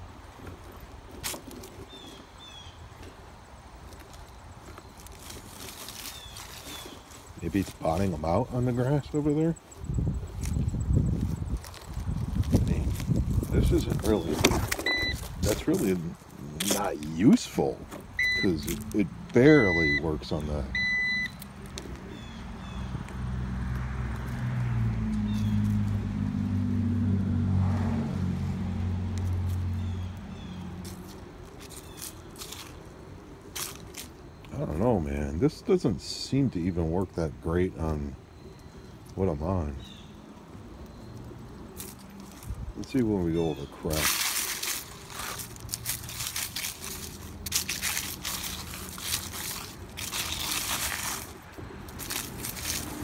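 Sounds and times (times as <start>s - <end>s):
tires rolling over asphalt: 0.0s - 53.0s
leaves crunching: 0.4s - 20.7s, 21.3s - 27.1s, 27.8s - 35.0s, 41.1s - 53.0s.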